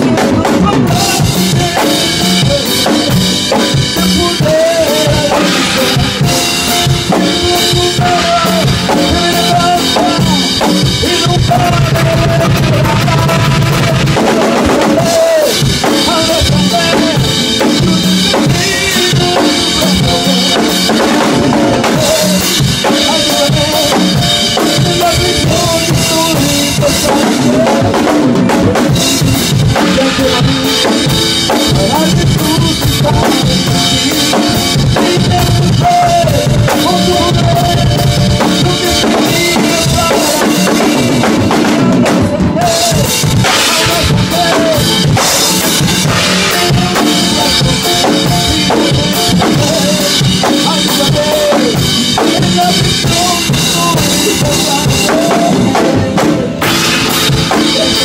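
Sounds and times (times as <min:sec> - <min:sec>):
backing instruments: 0:00.0 - 0:58.0
drum kit beat: 0:00.0 - 0:58.0
person singing: 0:00.0 - 0:58.0.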